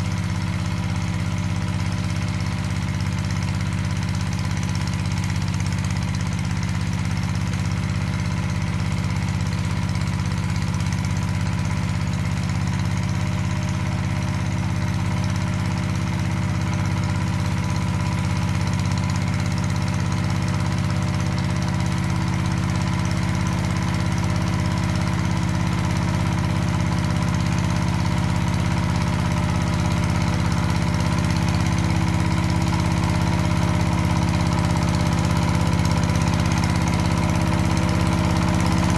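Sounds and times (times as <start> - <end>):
diesel tiller engine knocking: 0.0 - 38.9.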